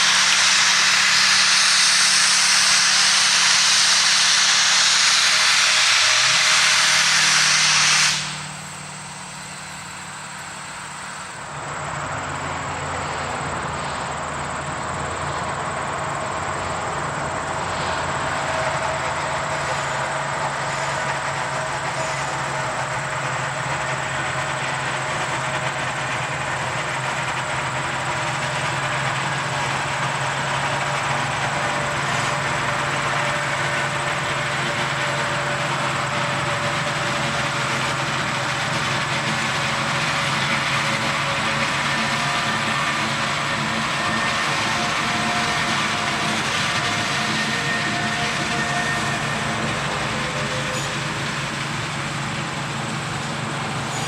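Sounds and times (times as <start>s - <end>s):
diesel locomotive hum: 0.0s - 54.0s
train running on track: 0.0s - 54.0s.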